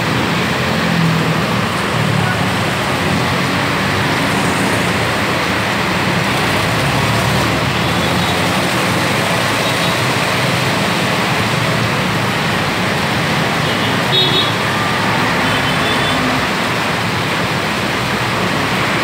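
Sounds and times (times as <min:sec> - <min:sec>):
heavy rain pouring: 0:00.0 - 0:19.0
road traffic: 0:00.0 - 0:19.0.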